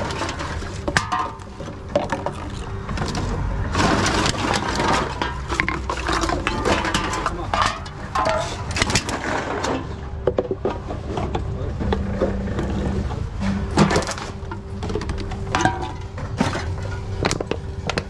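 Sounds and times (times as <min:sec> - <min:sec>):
cans and bottles clattering: 0:00.0 - 0:18.0.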